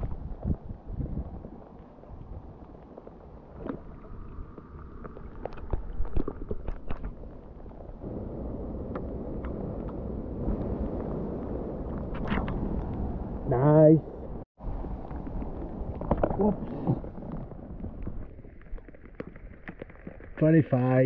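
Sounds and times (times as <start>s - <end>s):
steady rain: 0.0s - 21.0s
wind rumbling on microphone: 0.0s - 21.0s.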